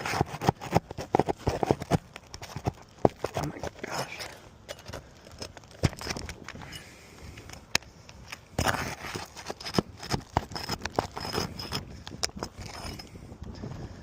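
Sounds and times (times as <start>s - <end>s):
scraping roofing shingles: 0.0s - 6.7s, 8.5s - 13.2s.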